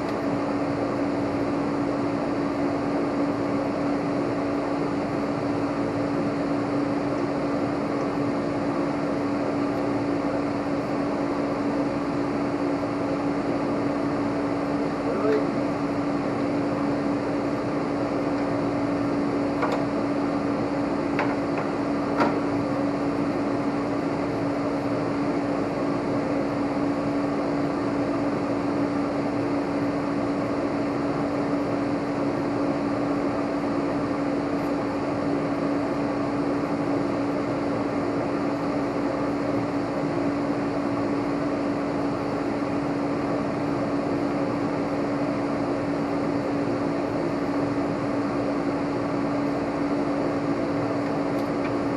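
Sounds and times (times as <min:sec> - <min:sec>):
steady machine hum: 0:00.0 - 0:51.9.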